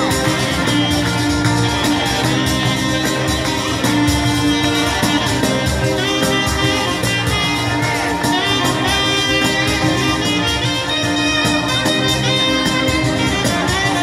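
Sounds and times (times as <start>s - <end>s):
folk band playing: 0.0s - 14.0s.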